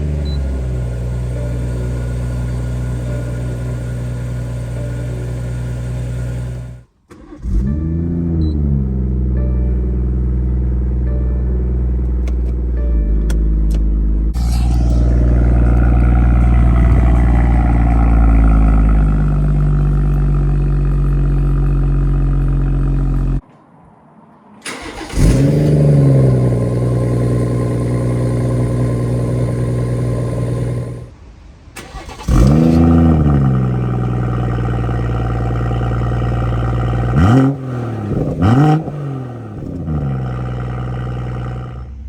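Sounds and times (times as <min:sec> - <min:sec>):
car engine starting and idling: 0:00.0 - 0:23.4, 0:24.6 - 0:42.0.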